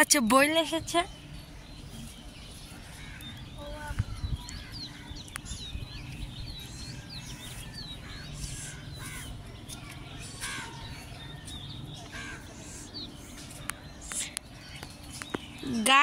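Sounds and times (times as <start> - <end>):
birds chirping: 0.0 - 16.0
harsh bird calls: 0.8 - 16.0.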